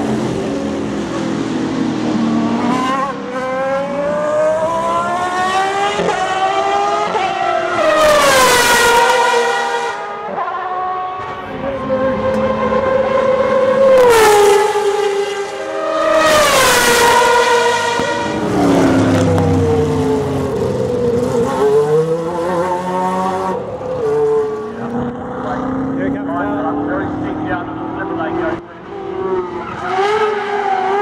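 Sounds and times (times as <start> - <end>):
race car engines passing: 0.0 - 31.0.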